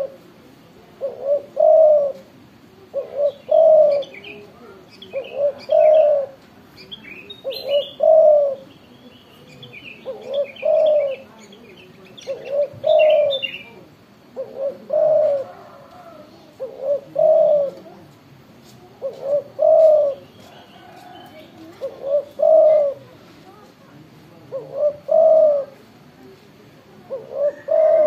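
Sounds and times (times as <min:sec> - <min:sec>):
dove cooing: 0:00.0 - 0:00.3, 0:00.9 - 0:06.4, 0:07.4 - 0:08.7, 0:09.4 - 0:18.1, 0:18.8 - 0:23.2, 0:24.4 - 0:25.9, 0:27.0 - 0:28.0
small birds chirping faintly: 0:00.0 - 0:28.0.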